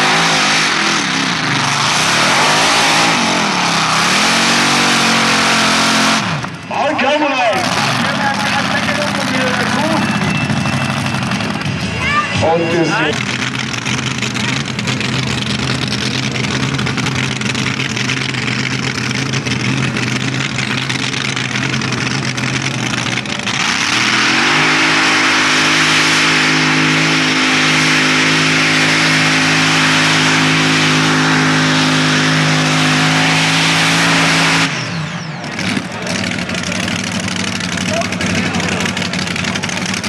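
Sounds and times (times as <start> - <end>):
tractor engine revving: 0.0 - 40.0.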